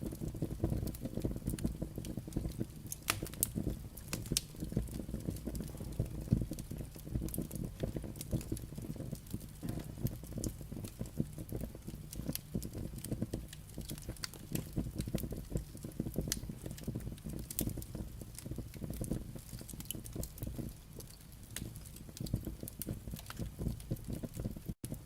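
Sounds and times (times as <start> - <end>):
firewood crackling and popping: 0.0 - 25.0
low rumble of fire: 0.0 - 25.0.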